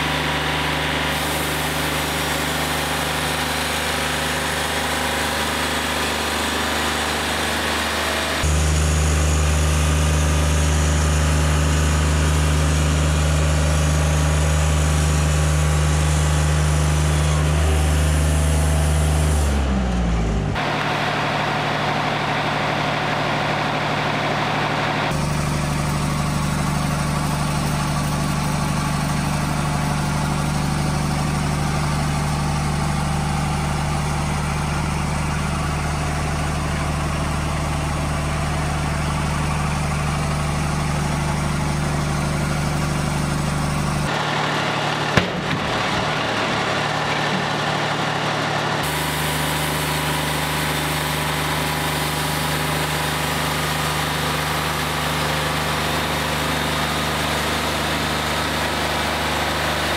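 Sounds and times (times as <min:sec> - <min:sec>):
sawmill engine sawing log: 0:00.0 - 0:59.9.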